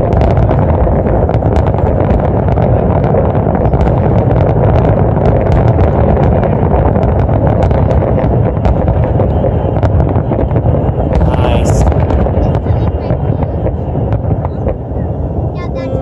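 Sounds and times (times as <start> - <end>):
fireworks bursts rumbling: 0.0 - 16.0
fireworks crackles and pops: 0.0 - 16.0.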